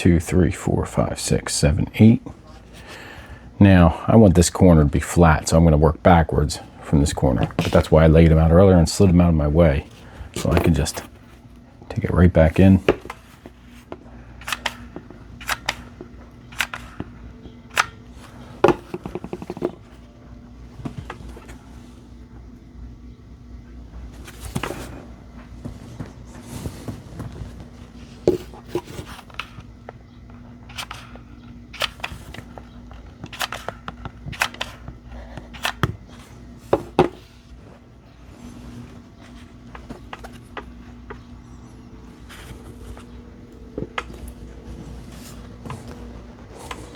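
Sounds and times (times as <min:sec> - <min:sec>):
faint hum: 0:00.0 - 0:46.9.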